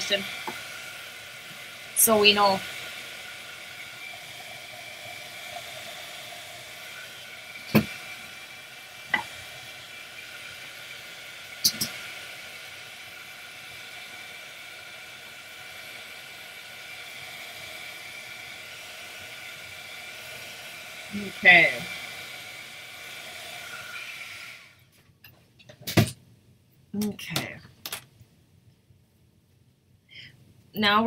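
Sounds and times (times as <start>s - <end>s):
heat gun blowing: 0.0s - 24.9s.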